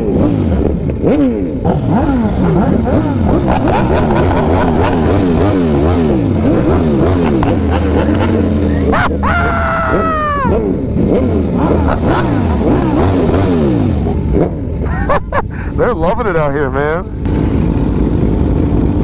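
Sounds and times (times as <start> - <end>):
low engine rumble: 0.0 - 19.0
motorcycle engines revving: 0.0 - 19.0.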